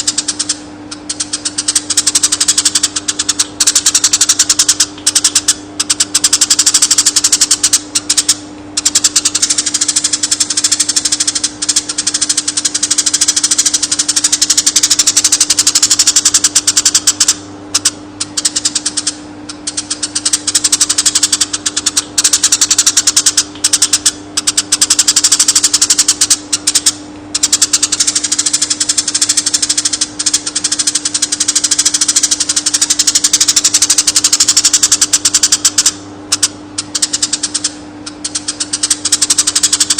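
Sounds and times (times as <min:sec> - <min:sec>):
sparrow chirping rapidly: 0:00.0 - 0:35.9
steady low hum: 0:00.0 - 0:39.9.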